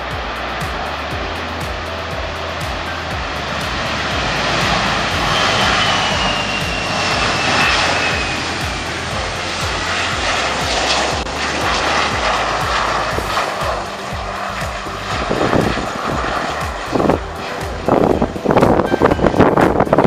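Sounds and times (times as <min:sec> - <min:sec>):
high engine whine: 0:00.0 - 0:20.0
jet engines running: 0:00.0 - 0:20.0.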